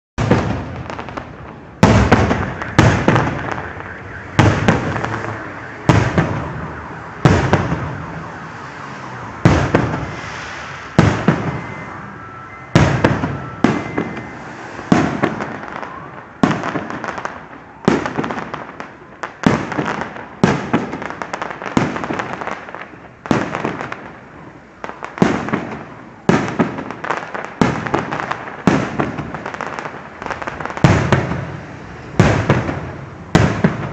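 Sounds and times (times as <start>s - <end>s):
fireworks bursting: 0.2s - 33.9s.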